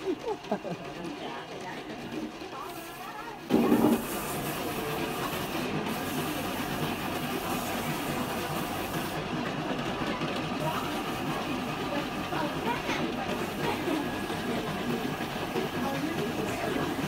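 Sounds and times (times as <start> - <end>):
polishing machine running: 0.0 - 17.0
wet sanding against spinning disc: 1.7 - 9.7, 10.4 - 17.0.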